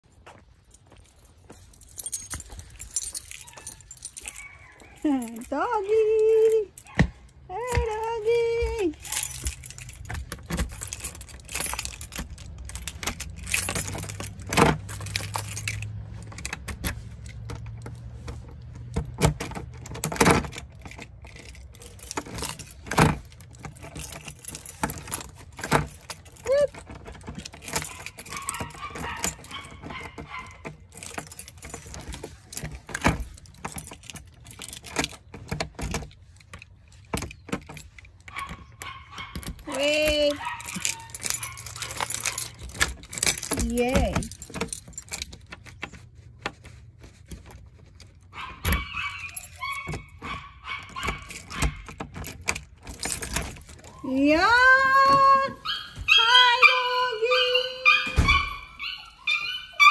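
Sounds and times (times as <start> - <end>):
keys jangling against door lock: 0.0 - 59.9.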